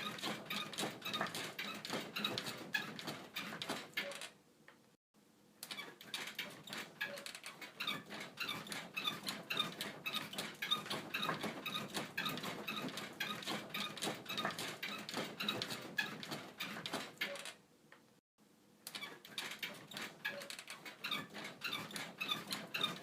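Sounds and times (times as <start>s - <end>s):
bed creaking rhythmically: 0.0s - 4.9s, 5.6s - 18.2s, 18.9s - 23.0s.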